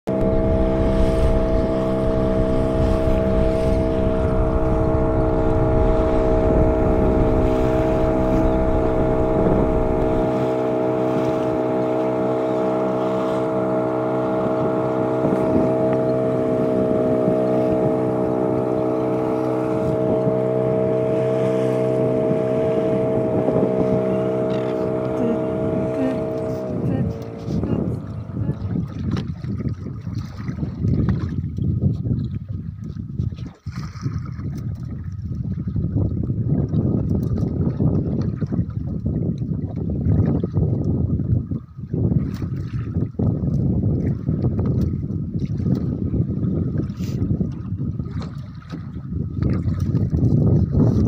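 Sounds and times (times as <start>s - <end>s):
outboard motor running: 0.0s - 51.0s
wind buffeting microphone: 0.1s - 51.0s.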